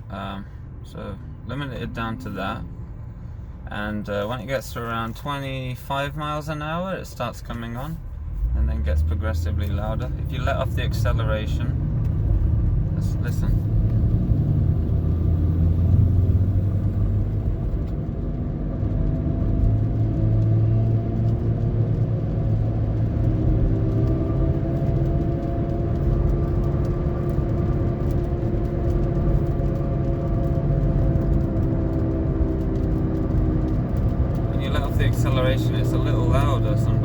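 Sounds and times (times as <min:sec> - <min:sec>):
road noise: 0:00.0 - 0:37.0.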